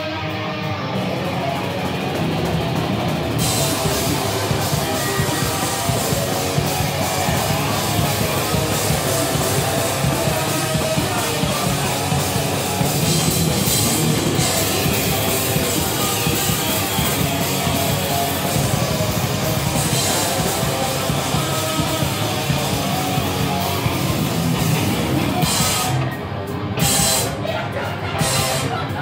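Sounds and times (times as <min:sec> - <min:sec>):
electric guitar riffing: 0:00.0 - 0:29.0
drum kit with crashing cymbals: 0:01.2 - 0:26.2, 0:26.8 - 0:27.4, 0:28.2 - 0:28.8.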